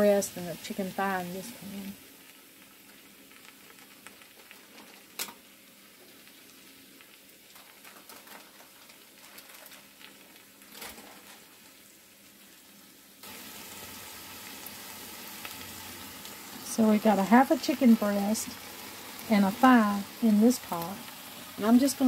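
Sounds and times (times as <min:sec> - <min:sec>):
chicken and onions sizzling in pot: 0:00.0 - 0:22.0.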